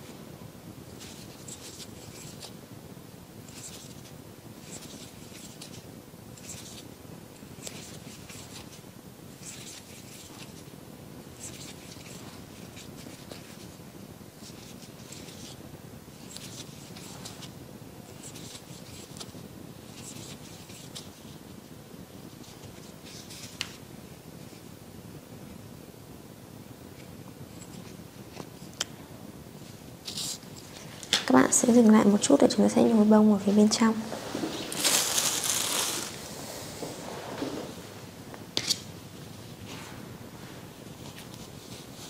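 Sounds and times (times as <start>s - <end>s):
low room hiss: 0.0s - 42.0s.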